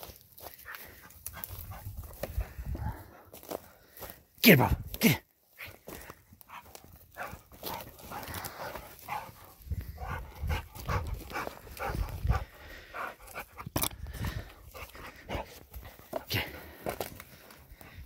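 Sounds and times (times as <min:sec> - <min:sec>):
dog panting and huffing: 0:00.3 - 0:04.2, 0:05.6 - 0:18.0.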